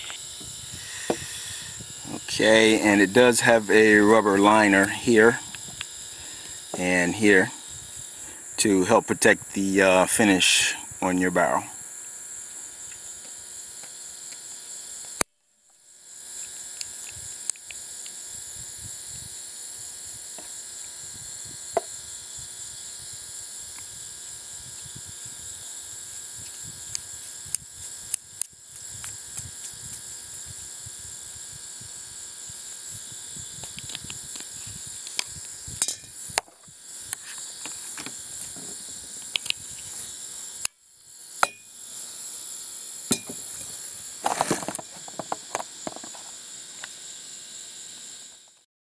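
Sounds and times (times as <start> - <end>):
high-pitched hiss: 0.0 - 48.7.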